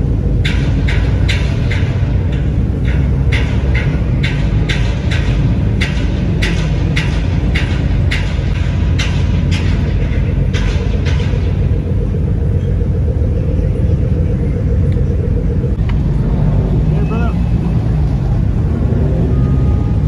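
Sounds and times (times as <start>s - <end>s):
sharp exhaust pops: 0.0s - 16.5s
car exhausts rumbling: 0.0s - 20.0s.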